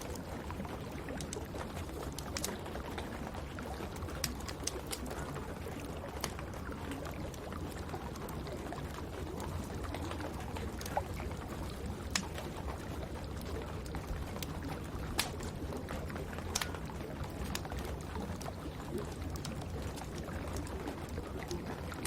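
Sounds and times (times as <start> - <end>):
rain falling: 0.0 - 22.0
wood fire crackling and popping: 0.0 - 22.0.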